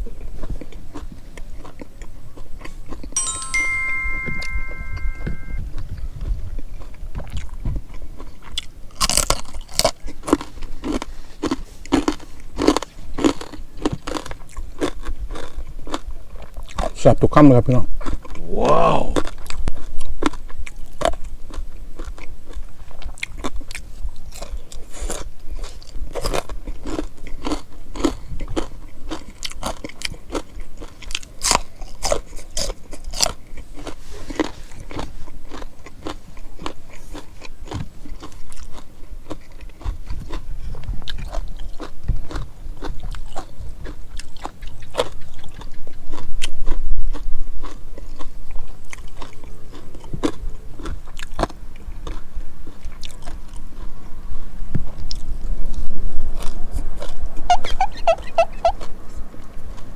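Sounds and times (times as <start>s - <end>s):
person chewing and crunching food: 0.0s - 5.5s, 6.5s - 59.9s.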